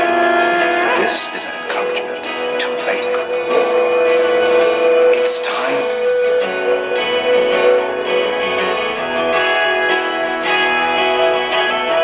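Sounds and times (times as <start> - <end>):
guitar music through small speaker: 0.0 - 12.0.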